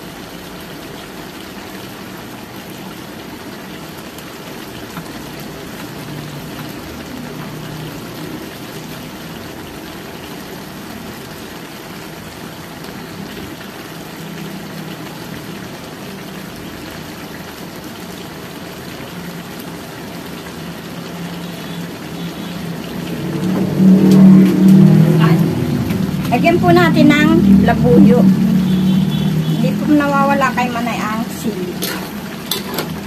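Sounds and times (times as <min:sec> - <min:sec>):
sauce bubbling: 0:00.0 - 0:33.0.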